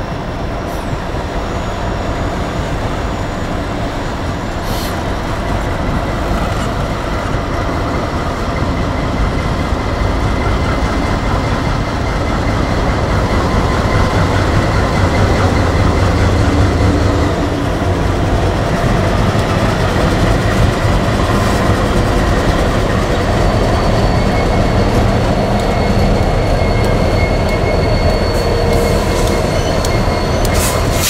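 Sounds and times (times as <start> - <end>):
diesel locomotives rumbling past: 0.0 - 31.0.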